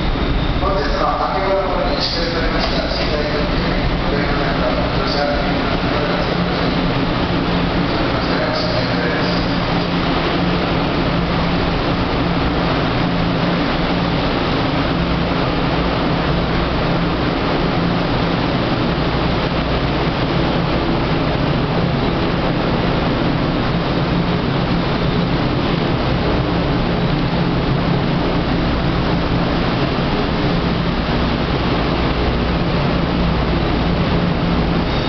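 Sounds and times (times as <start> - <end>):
low hum: 0.0 - 35.0
train wheels rumbling on rails: 0.0 - 35.0.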